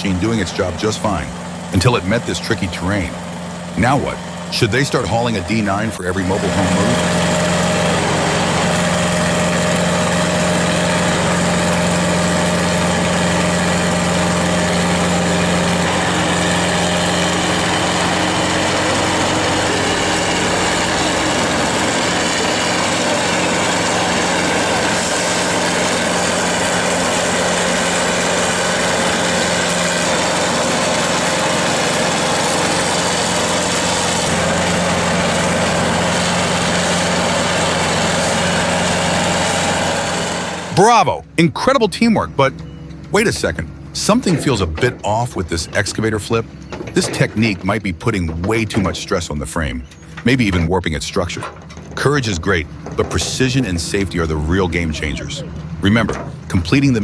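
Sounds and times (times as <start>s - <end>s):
heavy equipment engine droning: 0.0s - 57.0s.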